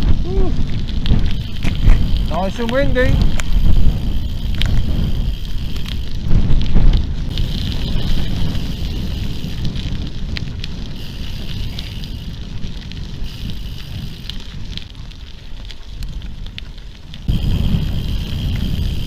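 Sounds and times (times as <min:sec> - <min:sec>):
bike tyres on rough track: 0:00.0 - 0:19.0
sharp clicks and rattles: 0:00.0 - 0:19.0
wind buffeting microphone: 0:00.0 - 0:19.0.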